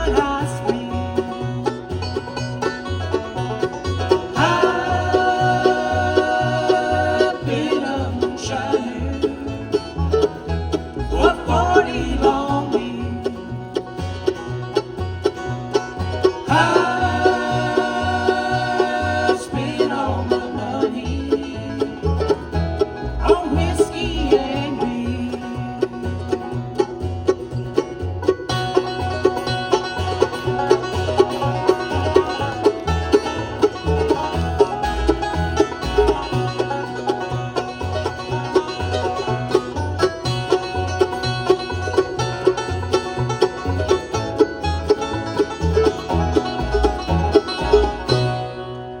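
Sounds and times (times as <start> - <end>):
banjo picking: 0.0 - 49.0
bass line: 0.0 - 49.0
bluegrass band playing: 0.0 - 49.0.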